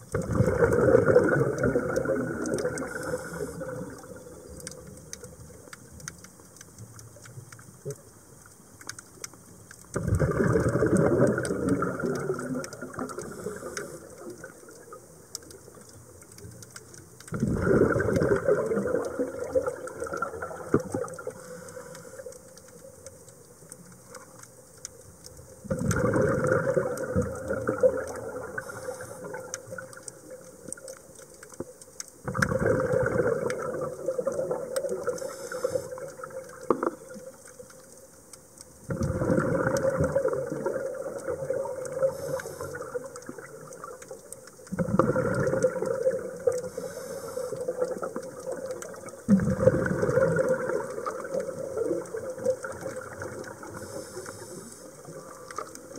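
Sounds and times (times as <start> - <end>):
faint clicks: 0.0 - 55.9
regulator bubbles underwater: 0.0 - 55.9.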